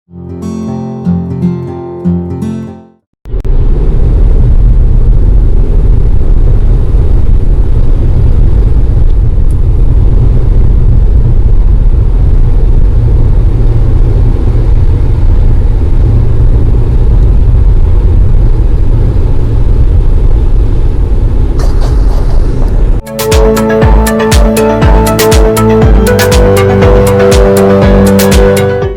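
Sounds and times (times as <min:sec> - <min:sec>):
car road noise: 0:03.3 - 0:28.8.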